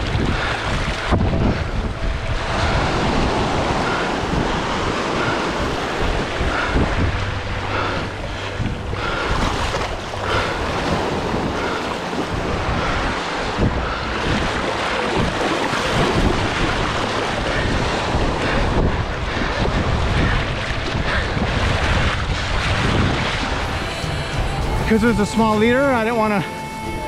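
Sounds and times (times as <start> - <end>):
surf washing in: 0.0 - 27.0
wind buffeting microphone: 0.0 - 27.0.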